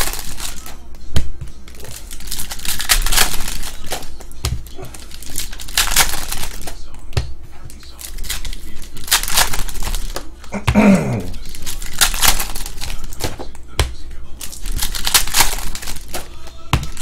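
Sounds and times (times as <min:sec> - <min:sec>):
foil wrapper crinkling and tearing: 0:00.0 - 0:00.9, 0:01.7 - 0:07.0, 0:07.7 - 0:10.4, 0:11.3 - 0:13.6, 0:14.2 - 0:17.0.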